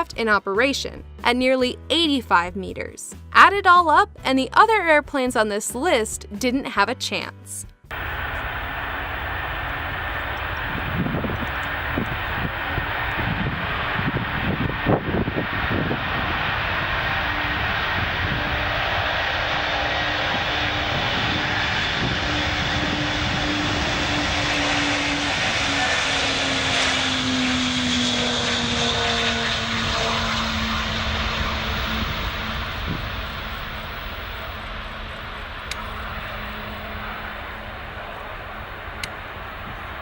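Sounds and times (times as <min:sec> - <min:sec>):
aircraft engines running: 0:07.9 - 0:40.0.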